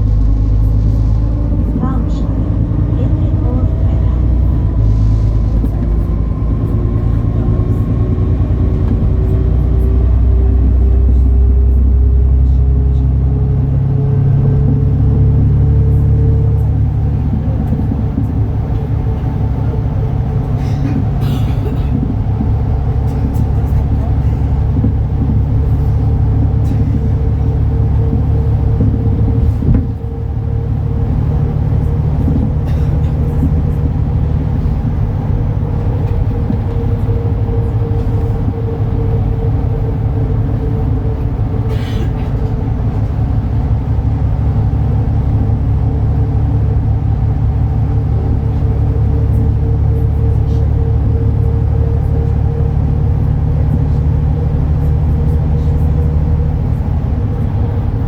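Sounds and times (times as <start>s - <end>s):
bus diesel engine rumbling: 0.0s - 58.0s.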